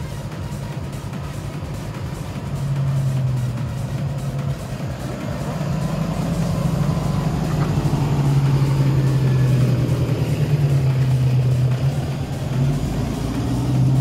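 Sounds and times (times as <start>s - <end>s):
vehicle engine at low speed: 0.0s - 14.0s.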